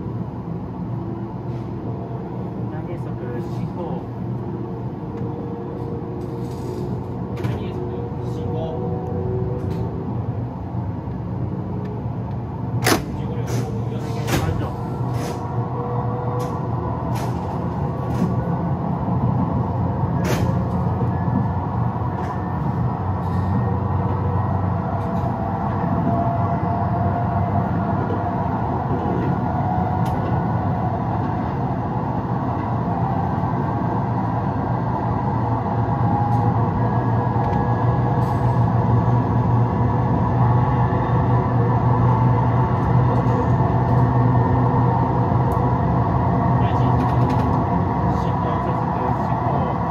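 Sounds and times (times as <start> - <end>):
train motor and wheel hum: 0.0 - 49.9.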